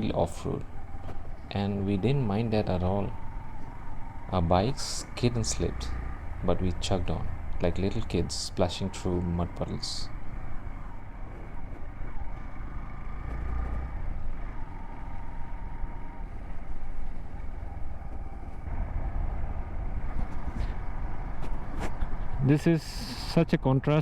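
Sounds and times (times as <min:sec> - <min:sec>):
motorcycle engine running: 0:00.0 - 0:24.0
road and wind rumble: 0:00.0 - 0:24.0.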